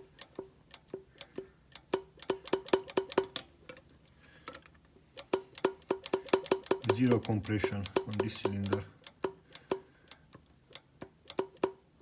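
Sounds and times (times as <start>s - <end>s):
sharp ticking: 0.0s - 3.4s, 5.2s - 11.8s.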